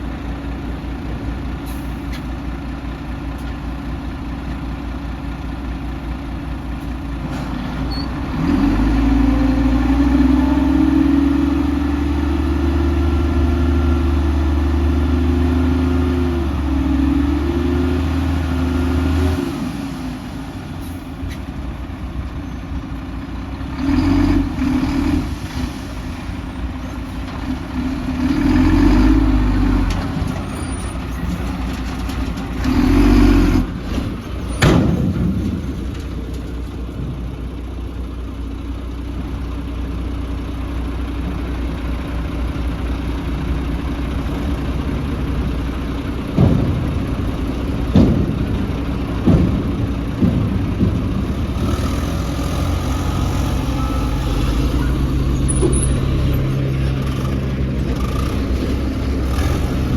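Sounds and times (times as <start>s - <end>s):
diesel machinery engine revving: 4.0s - 59.9s.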